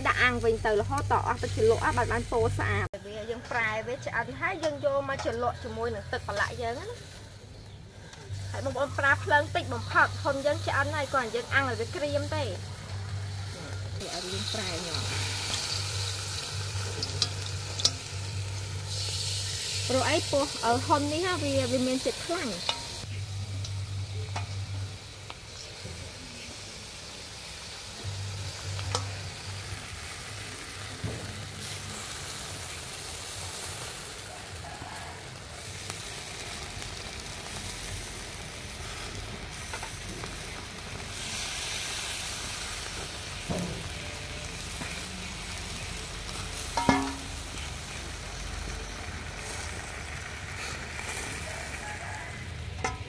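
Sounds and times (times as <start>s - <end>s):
meat sizzling on a grill: 0.0s - 53.0s.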